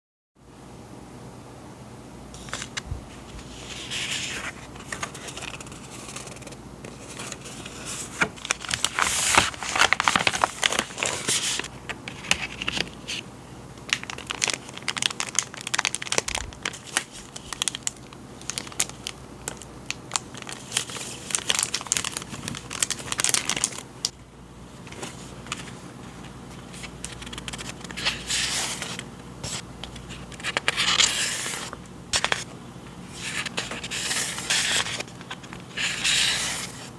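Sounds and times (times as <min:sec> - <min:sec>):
packaging crinkling and rustling: 0:03.4 - 0:13.2, 0:13.8 - 0:24.2, 0:24.8 - 0:32.5, 0:33.1 - 0:36.9.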